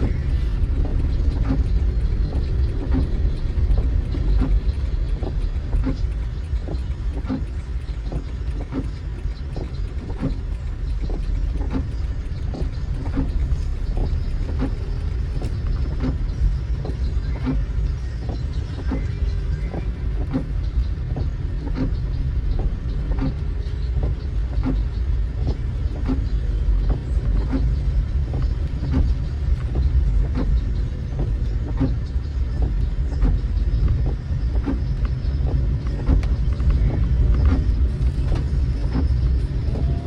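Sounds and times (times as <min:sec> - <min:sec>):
car road and engine rumble: 0:00.0 - 0:40.0
windscreen wipers knocking: 0:00.0 - 0:40.0.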